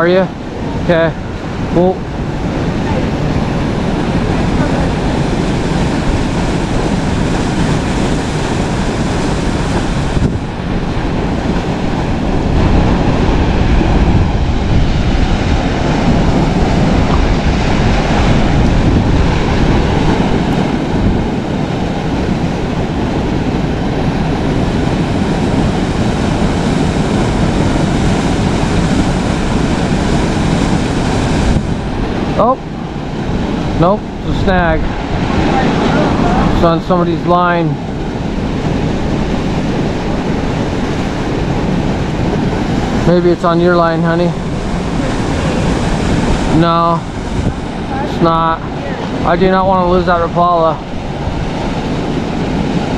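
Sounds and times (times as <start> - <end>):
river water rushing: 0.0 - 52.9
wind buffeting microphone: 0.0 - 52.9.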